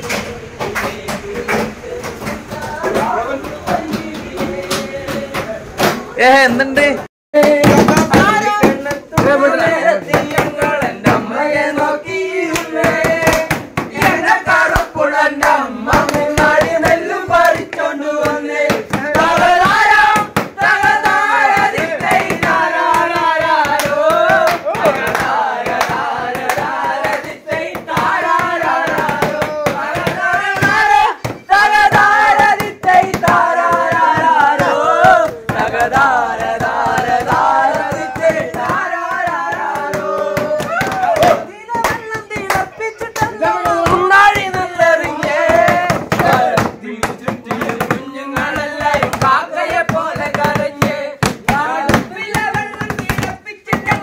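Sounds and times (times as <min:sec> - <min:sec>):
men singing together: 0:00.0 - 0:05.9, 0:07.4 - 0:54.0
hand claps: 0:00.0 - 0:06.1, 0:07.4 - 0:54.0.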